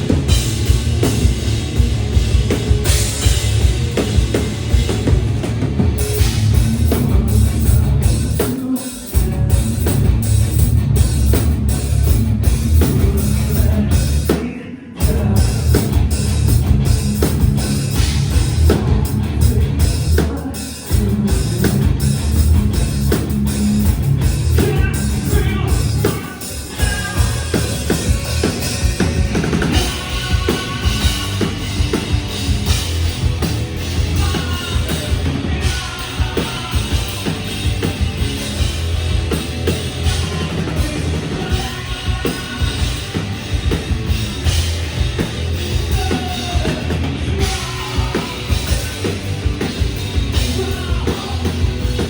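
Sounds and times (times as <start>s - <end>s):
heavy drum kit: 0.0s - 52.0s
live rock band playing: 0.0s - 52.0s.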